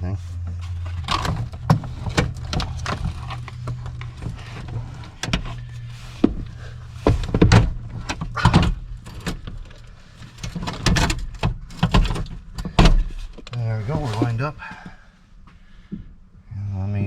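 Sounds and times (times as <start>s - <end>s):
steady low hum: 0.0s - 17.0s
rustling scrapes: 0.2s - 14.7s
seat frame knocks and clunks: 0.3s - 16.2s.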